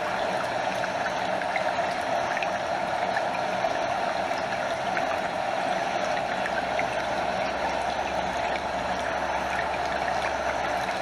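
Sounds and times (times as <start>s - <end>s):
stream running: 0.0s - 11.0s
water trickles and splashes: 0.0s - 11.0s.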